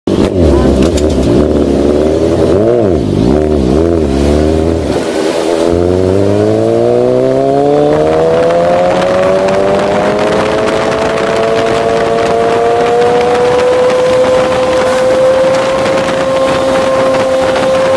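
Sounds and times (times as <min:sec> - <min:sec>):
motorcycle engine accelerating: 0:00.1 - 0:17.9
motorcycle engine revving: 0:00.1 - 0:17.9.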